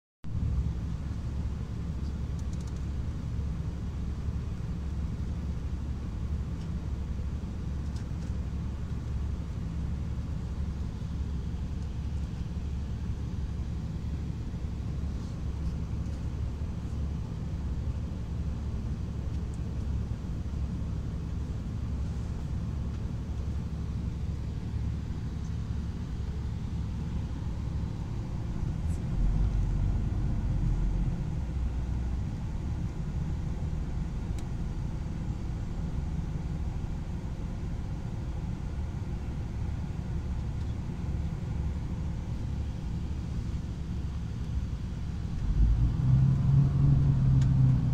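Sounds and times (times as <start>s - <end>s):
bus engine and road noise: 0.2s - 47.9s.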